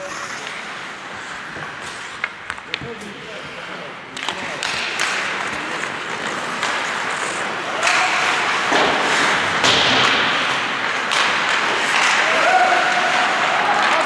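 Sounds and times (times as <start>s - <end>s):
hockey sticks and puck clacking: 0.0s - 14.0s
skates scraping on ice: 0.0s - 14.0s.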